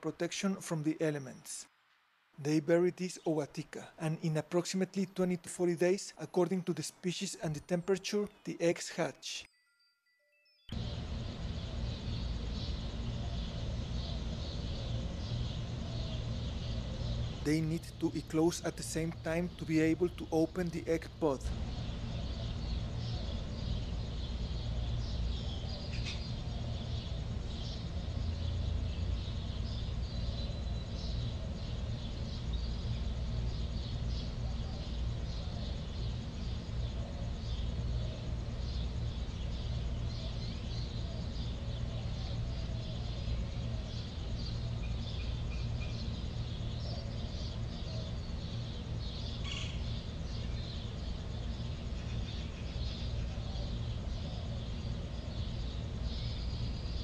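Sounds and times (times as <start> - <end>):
steady low hum: 10.7 - 57.0.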